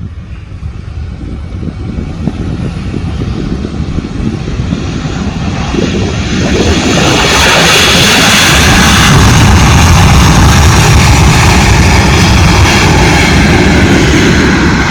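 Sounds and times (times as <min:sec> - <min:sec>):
aircraft engines roaring: 0:00.0 - 0:14.9.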